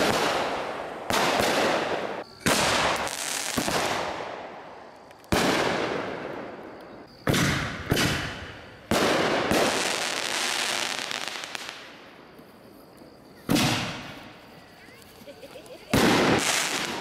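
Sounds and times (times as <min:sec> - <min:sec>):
fireworks booming: 0:00.0 - 0:12.4, 0:13.4 - 0:14.6, 0:15.7 - 0:17.0
crackle of firework stars: 0:00.0 - 0:17.0.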